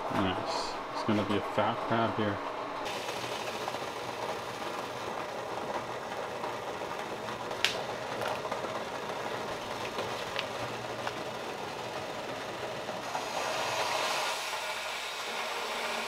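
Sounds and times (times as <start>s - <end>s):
water boiling in a pot: 2.8s - 16.0s.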